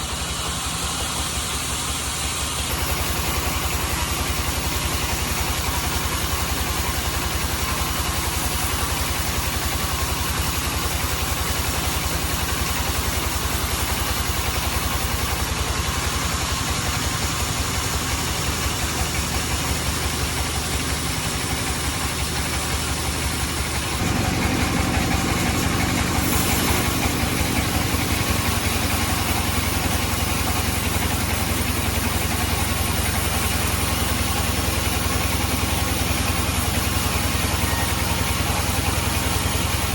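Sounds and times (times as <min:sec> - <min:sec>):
band sawmill droning: 0:00.0 - 0:39.9.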